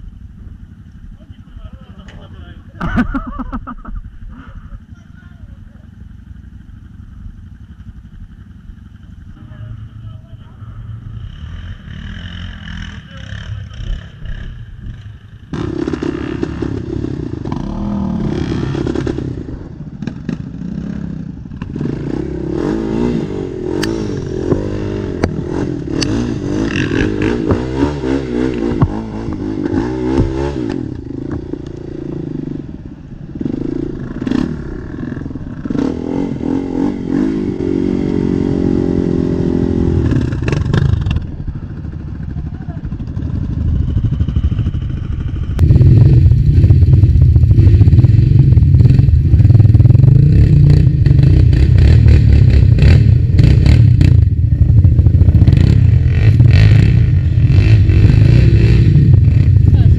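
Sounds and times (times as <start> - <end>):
quad bike engine revving: 4.3 - 59.9.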